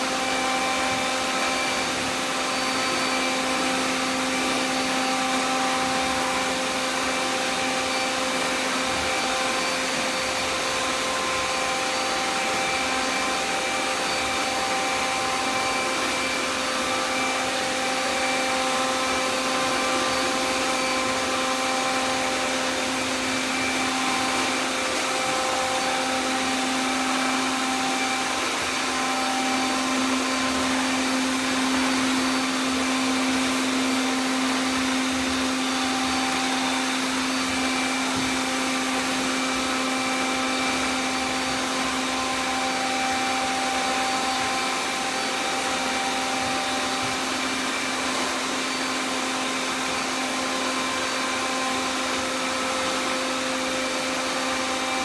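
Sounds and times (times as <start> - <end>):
robot vacuums whirring: 0.0 - 55.0.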